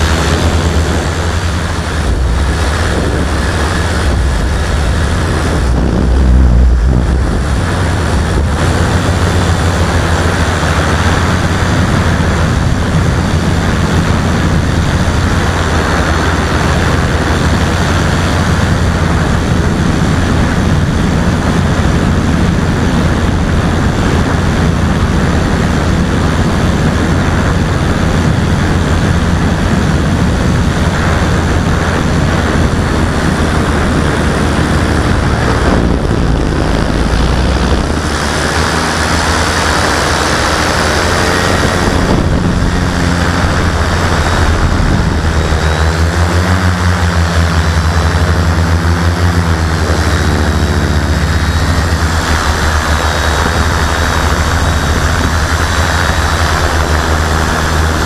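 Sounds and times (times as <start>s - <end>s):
quadcopter motors droning: 0.0s - 58.0s.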